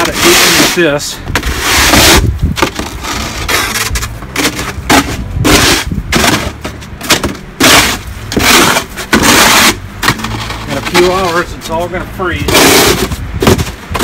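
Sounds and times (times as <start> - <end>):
snow shovel scraping hard surface: 0.0 - 14.0.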